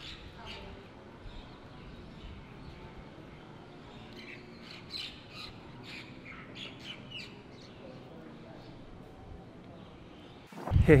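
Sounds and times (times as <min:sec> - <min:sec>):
birds chirping: 0:00.0 - 0:10.7
faint background noise: 0:00.0 - 0:11.0.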